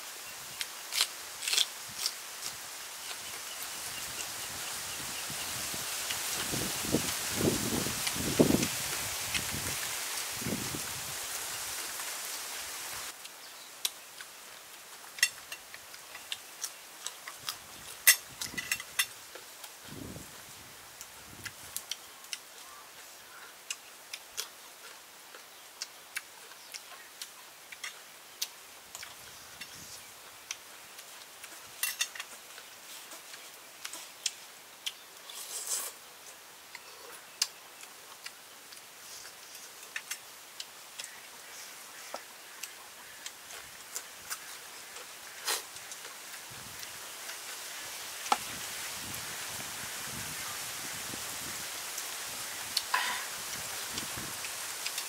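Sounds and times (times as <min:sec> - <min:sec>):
steady hiss: 0:00.0 - 0:55.0
soft eating sounds: 0:00.4 - 0:55.0.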